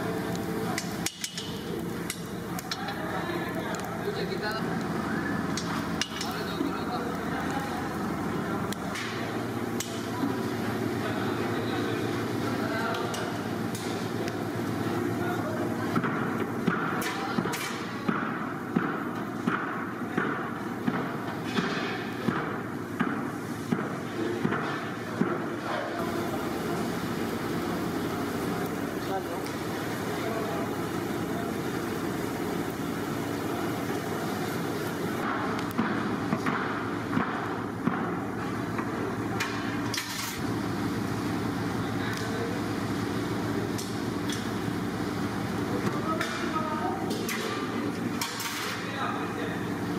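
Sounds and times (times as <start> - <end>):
burning coals: 0.0 - 49.9
steady low hum: 0.0 - 49.9.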